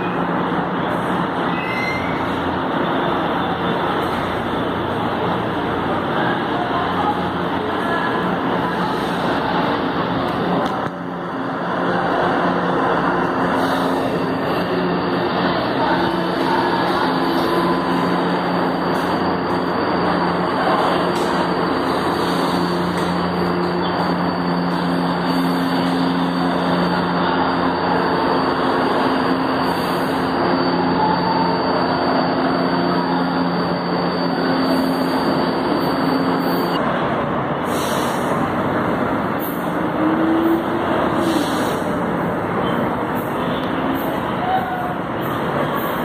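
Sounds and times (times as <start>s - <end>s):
electric train running hum: 0.0s - 46.0s.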